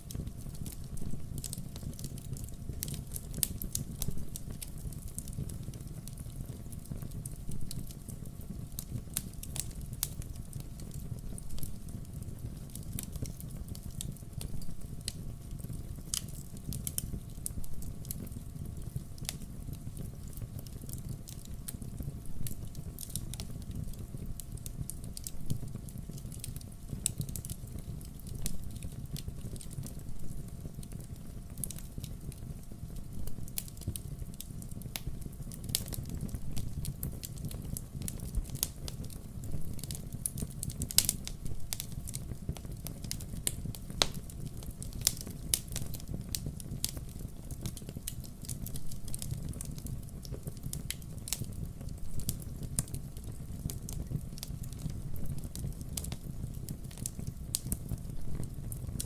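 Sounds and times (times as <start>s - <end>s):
low rumble of fire: 0.0s - 59.0s
logs crackling and popping: 0.1s - 59.0s.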